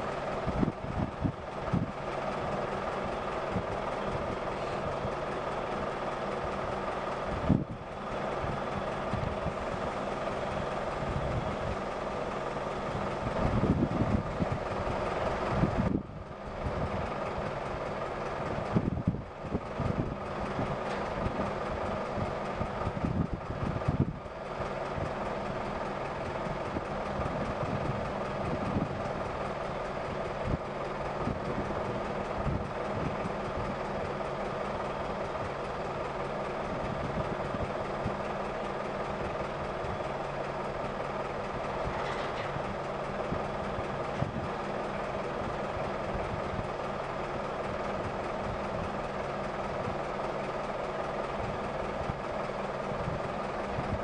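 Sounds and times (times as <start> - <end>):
diesel machinery rumbling: 0.0 - 54.0.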